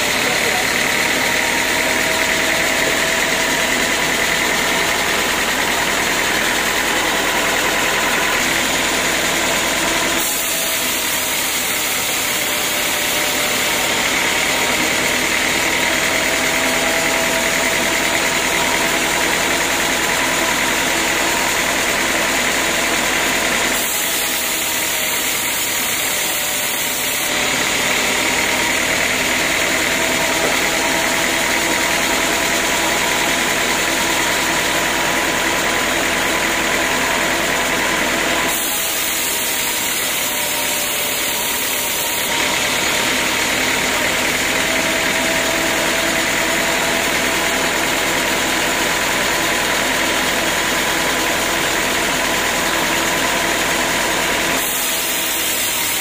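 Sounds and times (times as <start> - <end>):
band sawmill sawing log: 0.0 - 56.0.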